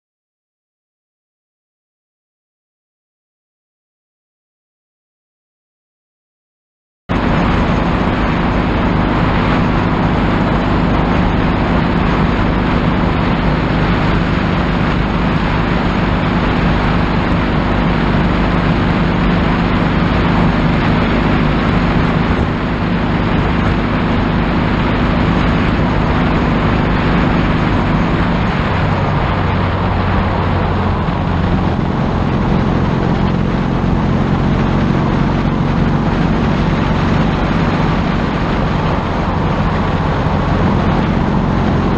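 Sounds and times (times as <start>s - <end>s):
motorcycle engine running: 7.1s - 41.9s
wind and road rush: 7.1s - 41.9s.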